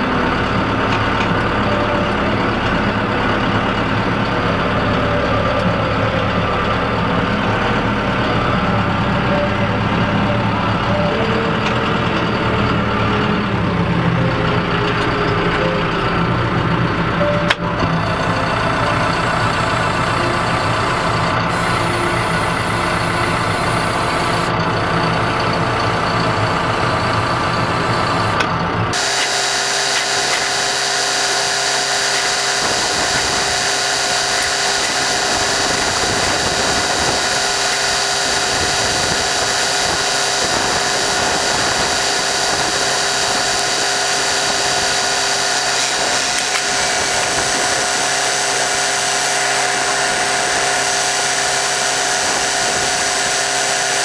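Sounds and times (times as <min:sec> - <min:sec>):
steady high whine: 0:00.0 - 0:54.0
tractor engine rumbling: 0:00.0 - 0:54.0.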